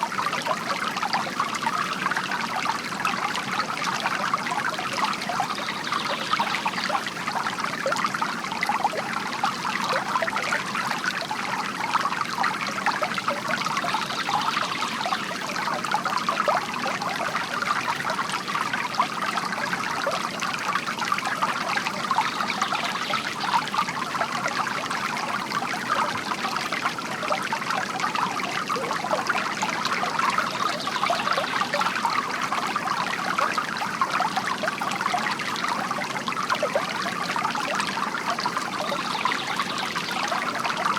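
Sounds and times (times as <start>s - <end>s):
water fountain trickling and splashing: 0.0s - 40.9s.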